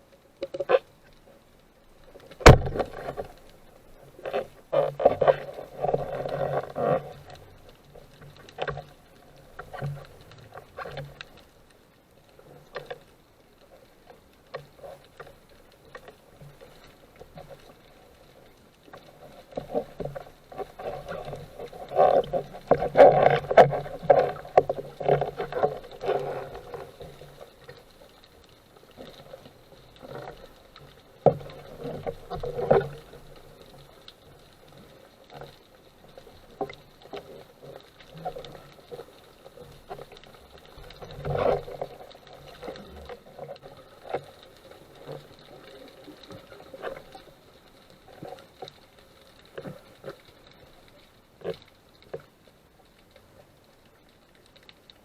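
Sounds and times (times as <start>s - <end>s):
faint clicks: 0.0s - 55.0s.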